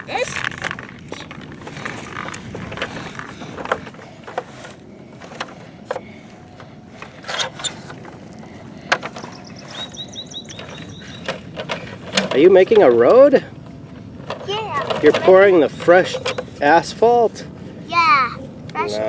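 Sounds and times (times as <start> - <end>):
plastic toy trucks scraping dirt: 0.0 - 8.2, 8.8 - 17.3.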